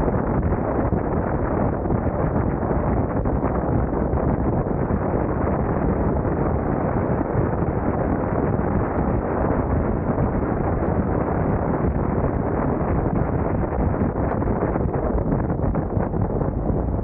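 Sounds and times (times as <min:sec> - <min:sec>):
motorcycle road rumble: 0:00.0 - 0:17.0
muffled wind rush: 0:00.0 - 0:17.0.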